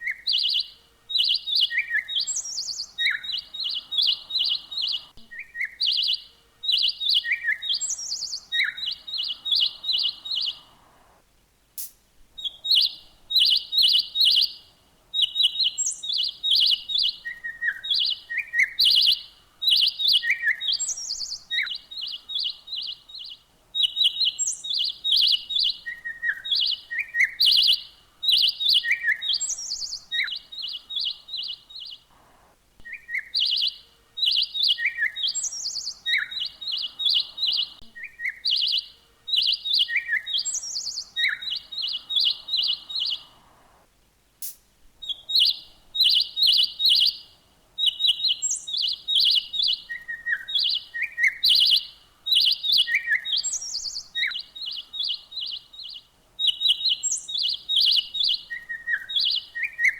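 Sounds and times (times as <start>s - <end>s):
songbird singing: 0.0s - 44.0s, 44.9s - 59.9s.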